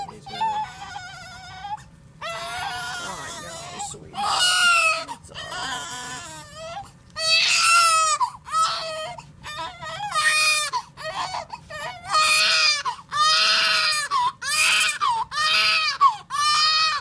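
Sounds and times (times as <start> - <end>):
newborn baby crying: 0.0 - 17.0.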